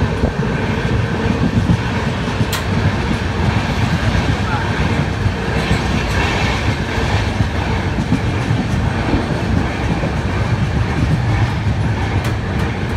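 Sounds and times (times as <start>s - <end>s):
train wheels rumbling on rails: 0.0s - 12.9s.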